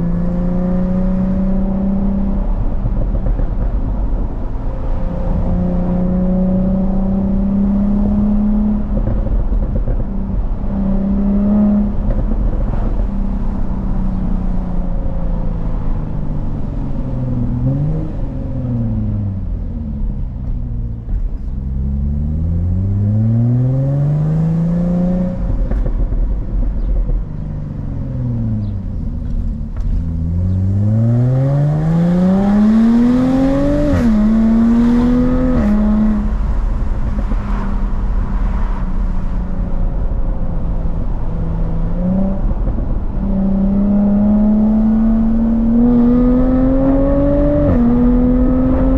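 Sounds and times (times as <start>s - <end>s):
car engine accelerating hard: 0.0s - 48.9s.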